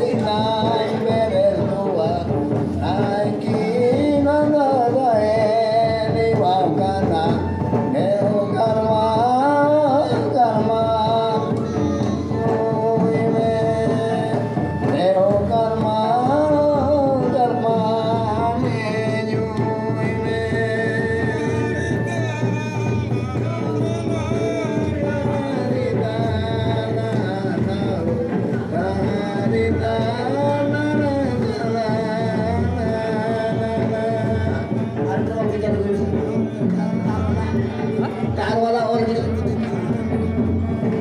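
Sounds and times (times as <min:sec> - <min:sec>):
hand drums beating: 0:00.0 - 0:41.0
people singing: 0:00.0 - 0:41.0.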